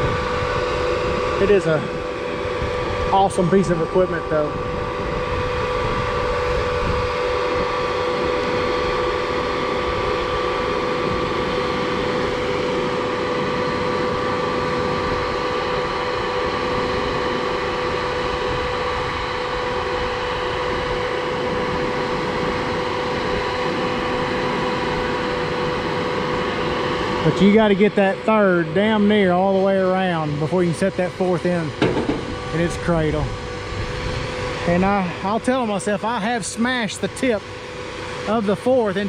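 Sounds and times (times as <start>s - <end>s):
hydraulic whine: 0.0s - 39.0s
truck engine running: 0.0s - 39.0s.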